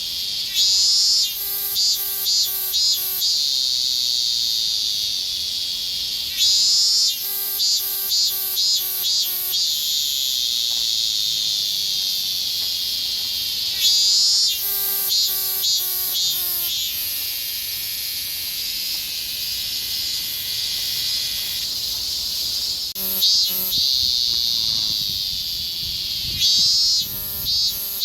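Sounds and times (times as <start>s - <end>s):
cicada calling repeated notes: 0.0s - 28.0s
high-pitched cicada drone: 0.0s - 28.0s.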